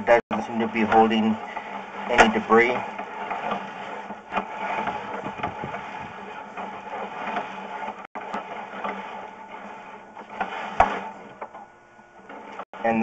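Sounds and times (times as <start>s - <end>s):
cable clattering and scraping: 0.0s - 13.0s.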